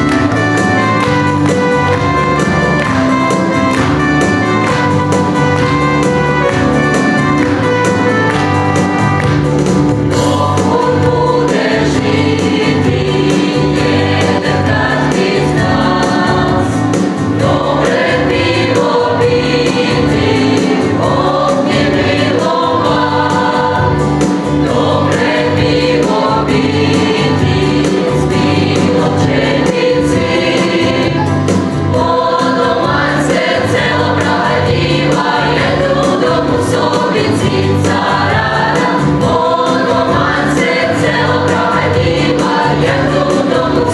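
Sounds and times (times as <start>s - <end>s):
mixed choir singing: 0.0s - 43.9s.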